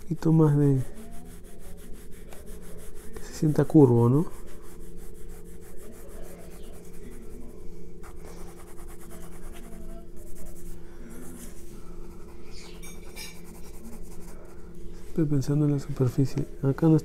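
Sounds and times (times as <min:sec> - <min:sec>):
steady low hum: 0:00.0 - 0:17.0
pencil scratching on paper: 0:00.2 - 0:14.6.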